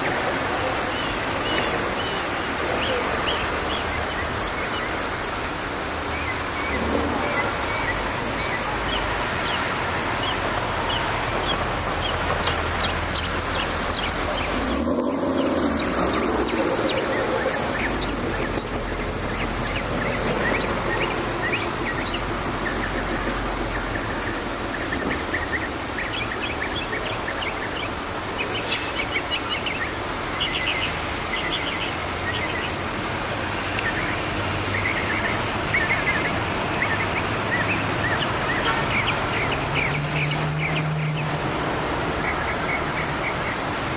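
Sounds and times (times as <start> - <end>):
steady background noise: 0.0 - 43.9.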